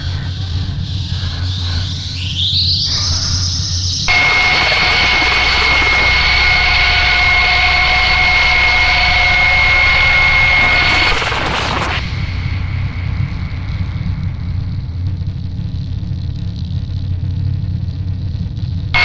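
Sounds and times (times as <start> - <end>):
distorted noise wall: 0.0 - 19.0
steady high whine: 0.0 - 19.0.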